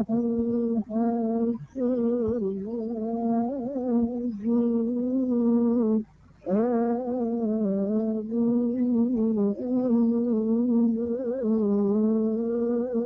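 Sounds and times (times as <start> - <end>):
person humming a hymn melody: 0.0 - 13.0.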